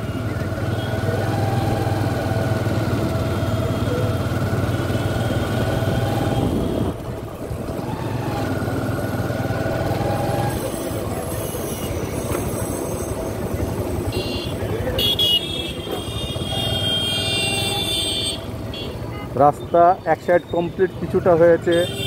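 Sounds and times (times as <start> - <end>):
motorcycle engine running: 0.0 - 19.4.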